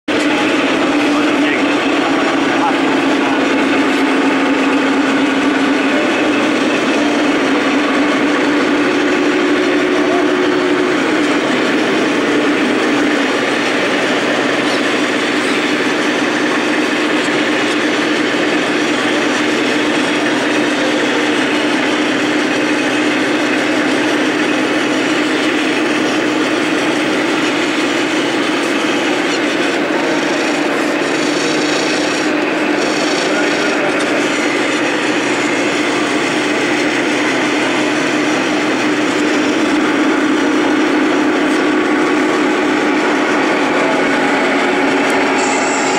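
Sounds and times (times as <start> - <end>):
truck engine idling drone: 0.1 - 45.9.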